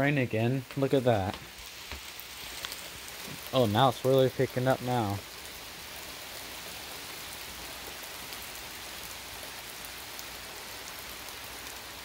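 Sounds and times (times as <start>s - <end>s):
heavy rain hiss: 0.0s - 12.0s.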